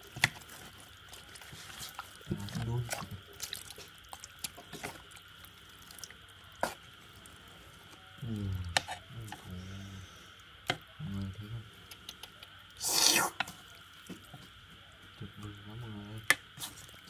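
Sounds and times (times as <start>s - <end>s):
wet squishing of food stirred: 0.0s - 17.0s.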